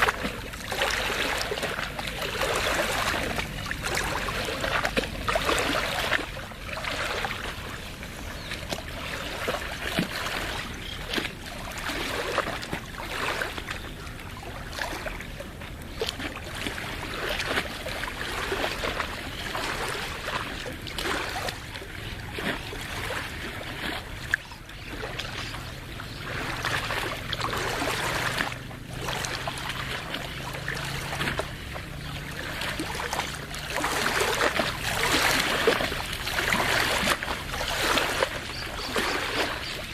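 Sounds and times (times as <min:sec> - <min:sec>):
water lapping at shore: 0:00.0 - 0:39.9.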